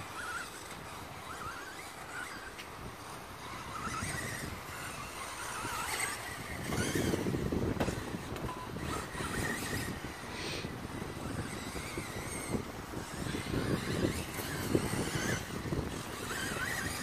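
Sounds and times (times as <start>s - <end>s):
toy car motor whirring: 0.0s - 17.0s.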